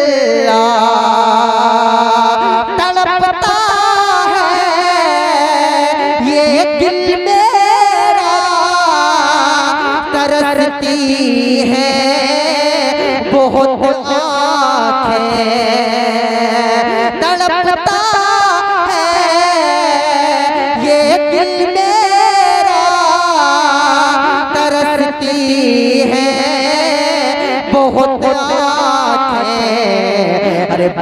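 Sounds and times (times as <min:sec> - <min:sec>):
man singing with vibrato: 0:00.0 - 0:31.0.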